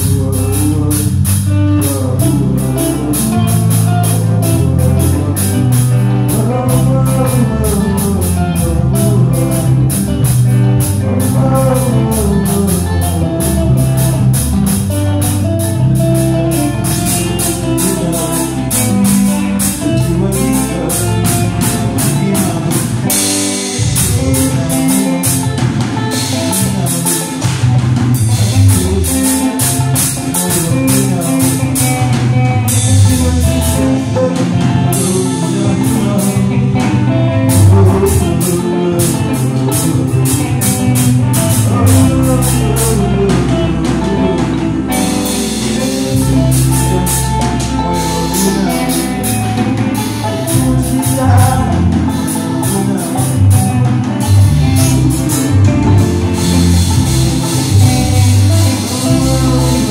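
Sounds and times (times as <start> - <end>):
drum kit cymbal beat: 0.0 - 59.9
live band playing: 0.0 - 59.9.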